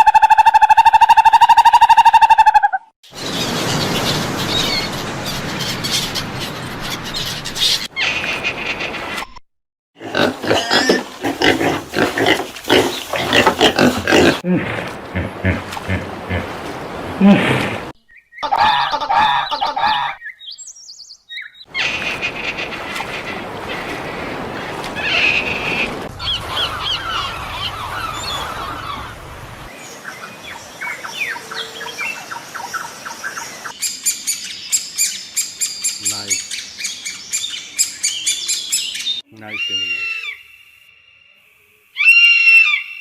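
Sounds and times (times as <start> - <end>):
birds chirping: 2.4 - 9.1, 10.8 - 43.0.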